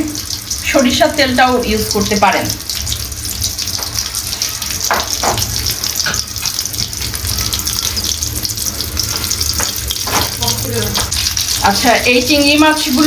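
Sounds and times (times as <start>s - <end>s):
prawns sizzling in oil: 0.0s - 13.0s
oil spattering crackles: 1.7s - 13.0s.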